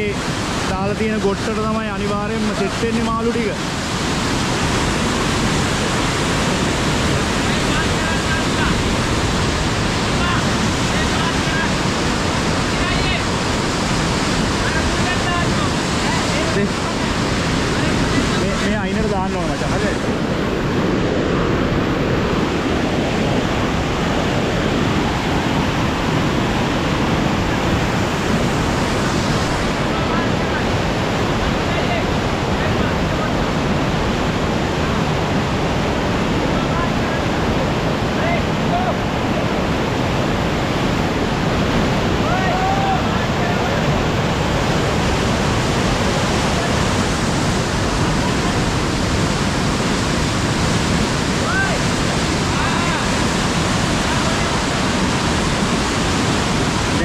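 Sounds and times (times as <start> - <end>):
water rushing over weir: 0.0 - 57.0.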